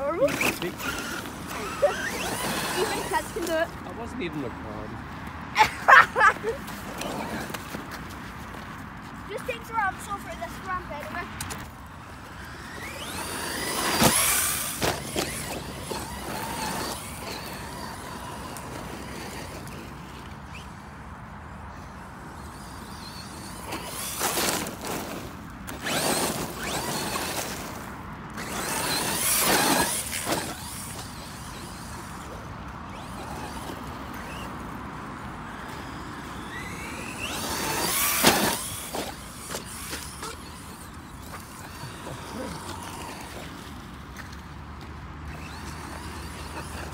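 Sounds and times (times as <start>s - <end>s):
electric rc car motor whining: 0.0s - 4.5s, 5.8s - 8.6s, 9.3s - 46.9s
tyre and ground noise: 0.0s - 46.9s.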